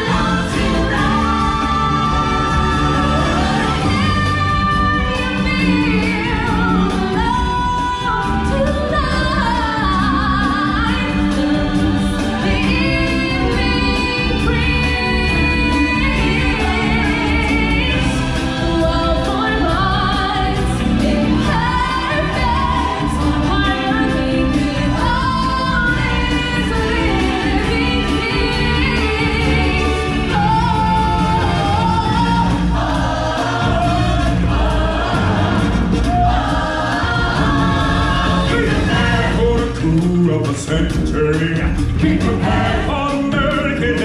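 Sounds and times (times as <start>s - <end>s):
choir and singers: 0.0s - 44.0s.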